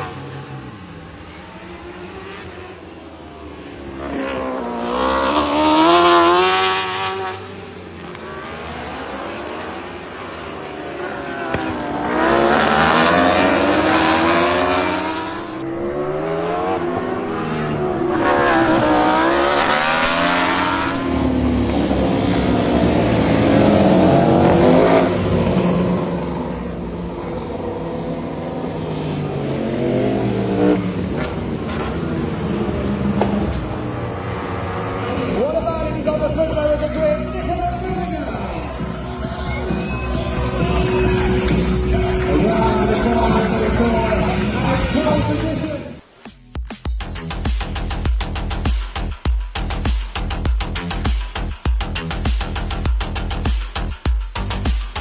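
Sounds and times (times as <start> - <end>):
racing motorcycle engine revving: 0.0 - 45.9.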